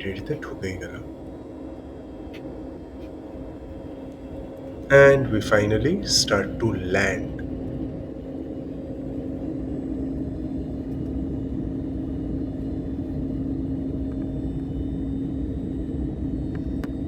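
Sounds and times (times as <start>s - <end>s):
airliner cabin engine rumble: 0.0s - 17.0s
steady cabin hum: 0.0s - 17.0s.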